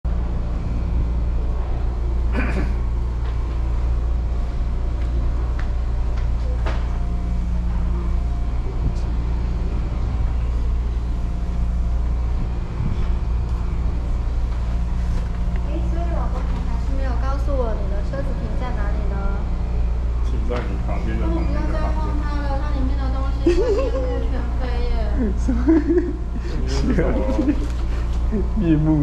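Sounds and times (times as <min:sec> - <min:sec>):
low hum and rumble: 0:00.0 - 0:29.0.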